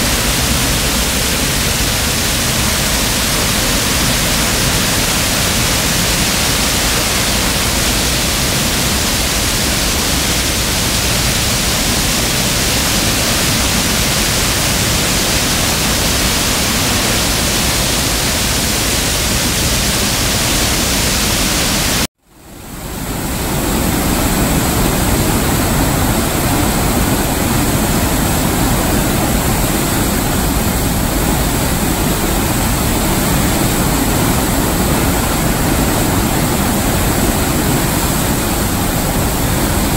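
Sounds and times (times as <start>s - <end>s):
water churning in river: 0.0s - 39.9s
waterfall rushing: 0.0s - 39.9s.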